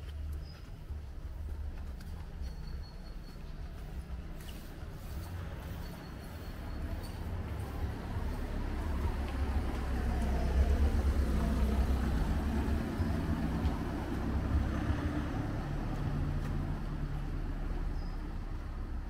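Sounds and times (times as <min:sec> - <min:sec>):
vehicle engine running: 0:00.0 - 0:17.9.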